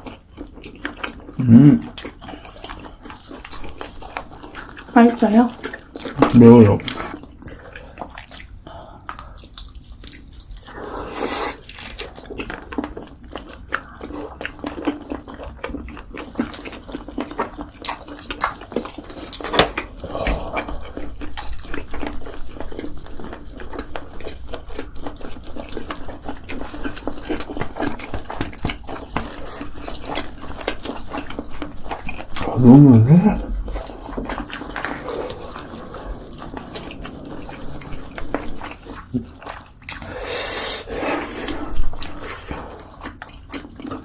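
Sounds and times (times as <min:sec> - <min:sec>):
person chewing: 0:00.0 - 0:44.0.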